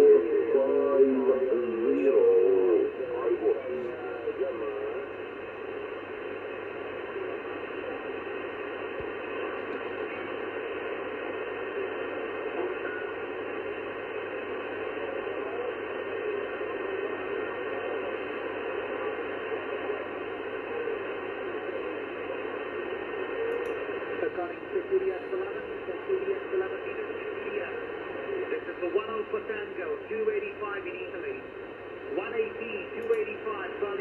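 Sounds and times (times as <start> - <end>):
radio static hiss: 0.0 - 34.0.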